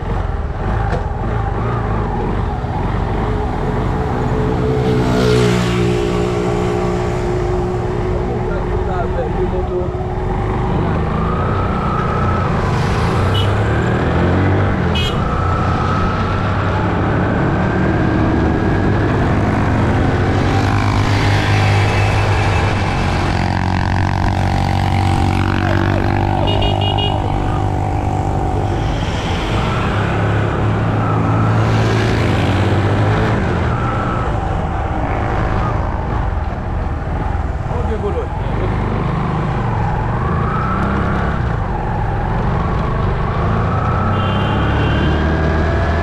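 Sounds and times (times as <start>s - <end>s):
passing traffic: 0.0s - 46.0s
road and wind noise: 0.0s - 46.0s.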